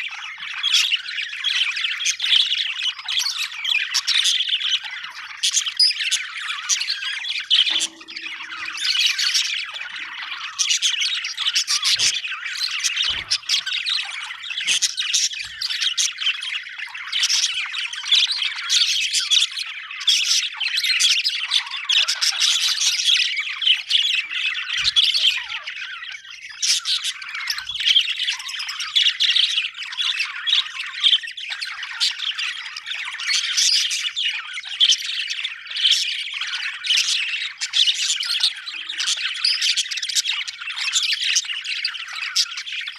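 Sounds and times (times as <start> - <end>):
budgerigars chattering: 0.0 - 42.9.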